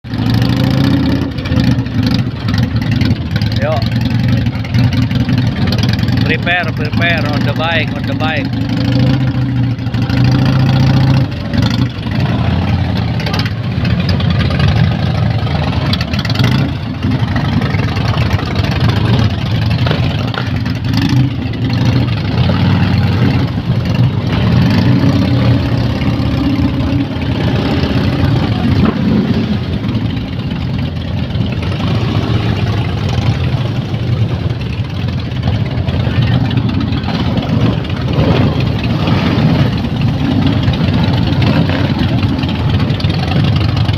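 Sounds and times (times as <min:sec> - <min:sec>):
motorcycle engines idling: 0:00.0 - 0:43.9.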